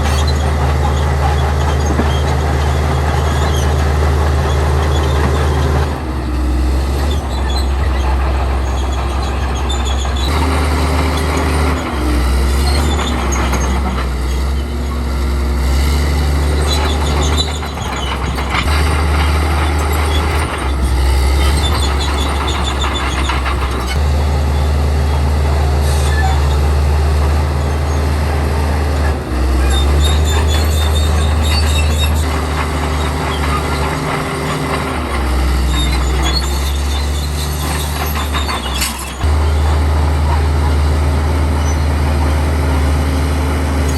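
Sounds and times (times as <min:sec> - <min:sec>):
diesel engine under load: 0:00.0 - 0:43.9
steel tracks clanking and squealing: 0:00.0 - 0:43.9.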